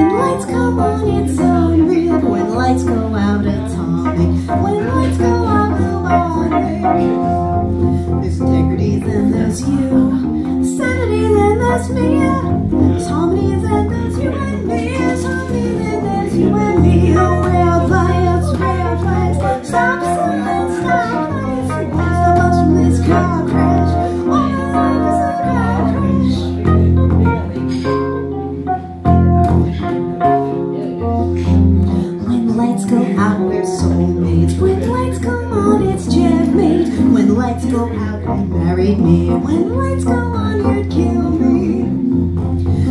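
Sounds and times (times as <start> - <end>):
woman singing into microphone: 0.0 - 28.0, 31.3 - 42.9
electric bass guitar: 0.0 - 42.9
electric keyboard: 0.0 - 42.9.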